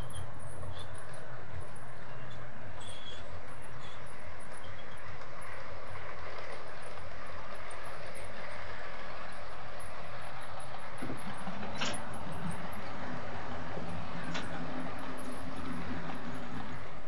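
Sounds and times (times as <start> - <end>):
model train motor whirring on rails: 0.0 - 17.0.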